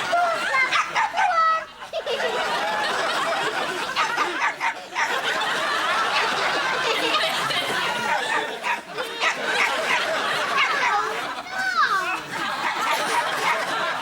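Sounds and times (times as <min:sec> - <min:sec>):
audience laughing: 0:00.0 - 0:14.0.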